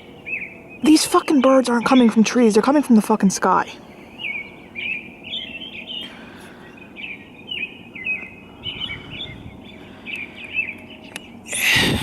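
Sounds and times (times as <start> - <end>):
songbirds chirping: 0.0 - 11.9
steady low background noise: 0.0 - 12.0.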